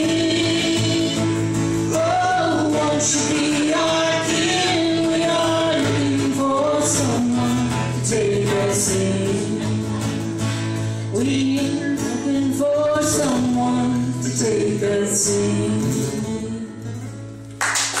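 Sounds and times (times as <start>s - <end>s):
person singing: 0.0s - 17.0s
plucked acoustic guitar: 0.0s - 17.6s.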